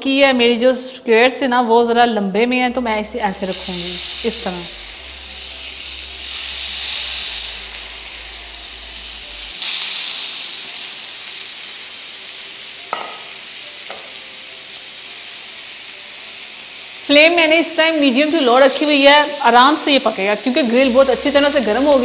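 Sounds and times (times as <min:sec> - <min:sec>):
chicken sizzling on a grill pan: 0:03.4 - 0:22.0.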